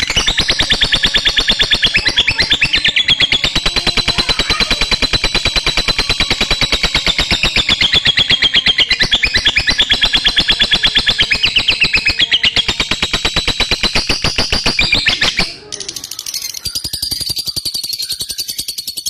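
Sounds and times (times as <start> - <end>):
lovebird chattering trill: 0.0 - 19.0.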